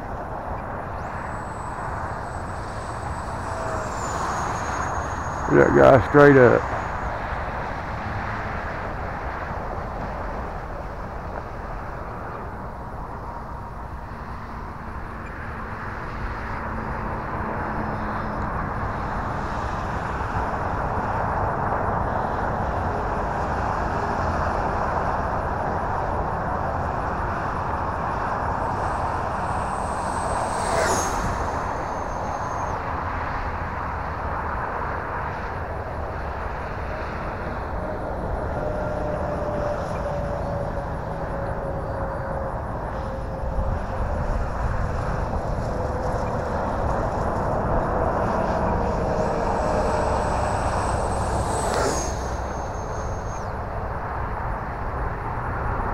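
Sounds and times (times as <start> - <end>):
rc jet fan rushing and whining: 0.0 - 54.5.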